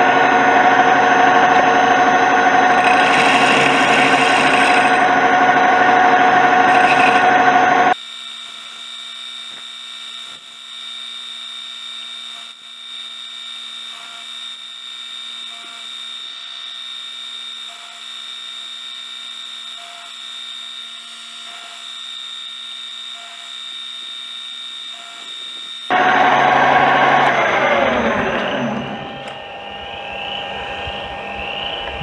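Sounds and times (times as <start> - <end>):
boring bar cutting metal: 0.0 - 10.8, 13.3 - 16.8, 17.5 - 30.2
metal lathe whining and humming: 0.0 - 32.0.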